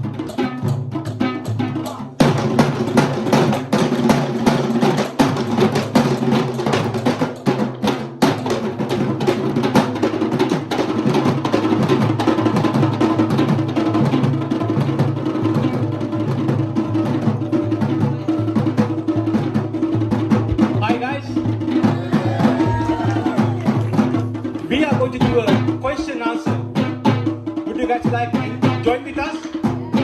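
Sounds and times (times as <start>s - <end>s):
drum ensemble playing fast rhythm: 0.0s - 30.0s.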